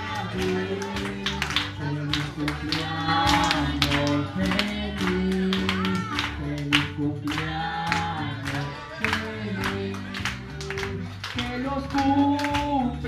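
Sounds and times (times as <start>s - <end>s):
singing over instruments: 0.0s - 10.6s
hands clapping along: 0.0s - 13.0s
steady bass line: 0.0s - 13.0s.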